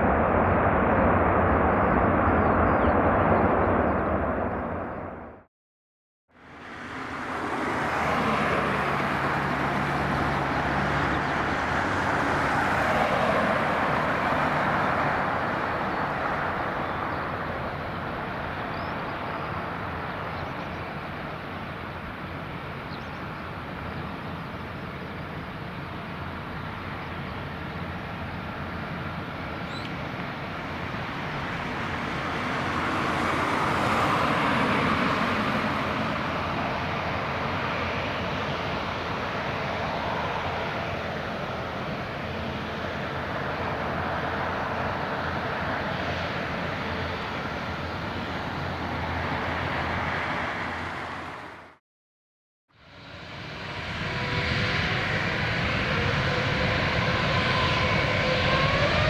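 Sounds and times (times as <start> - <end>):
jet engines rumbling: 0.0 - 5.5, 6.6 - 51.4, 52.9 - 59.0.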